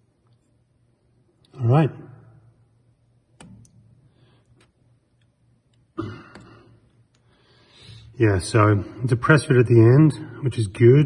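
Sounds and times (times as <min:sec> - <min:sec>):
faint low steady hum: 0:00.0 - 0:11.0.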